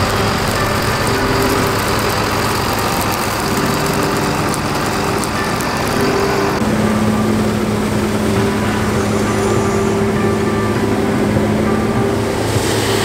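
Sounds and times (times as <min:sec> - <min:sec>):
combine harvester drone: 0:00.0 - 0:13.0
tractor diesel engine: 0:00.0 - 0:13.0.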